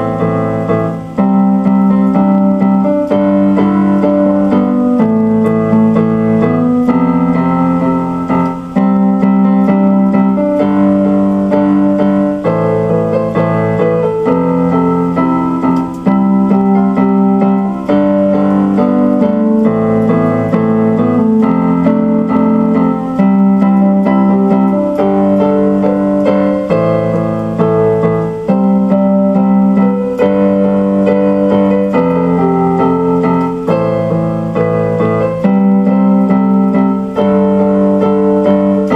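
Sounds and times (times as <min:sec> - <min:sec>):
electronic keyboard piano music: 0:00.0 - 0:38.9.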